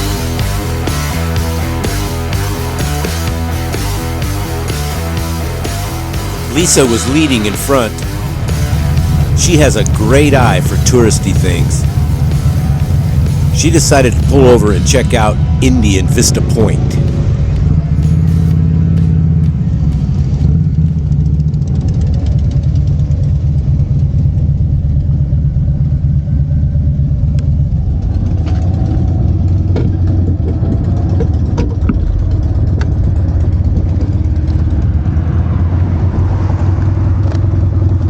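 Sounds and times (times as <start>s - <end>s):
motorcycle engine at low revs: 0.0s - 38.0s.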